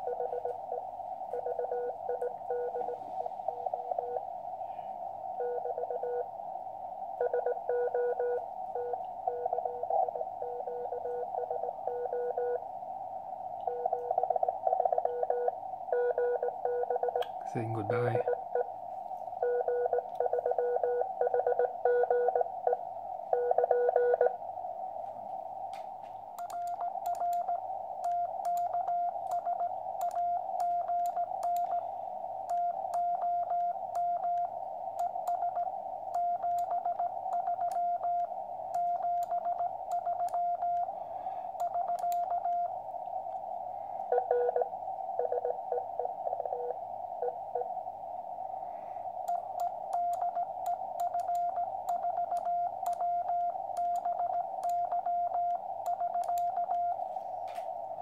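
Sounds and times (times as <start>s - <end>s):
low-pitched morse code tone: 0.0s - 4.2s, 5.4s - 6.3s, 7.2s - 12.6s, 13.6s - 18.7s, 19.4s - 24.4s, 26.4s - 31.9s, 32.5s - 40.9s, 41.6s - 42.7s, 44.1s - 47.7s, 49.3s - 57.0s
receiver hiss: 0.0s - 58.0s.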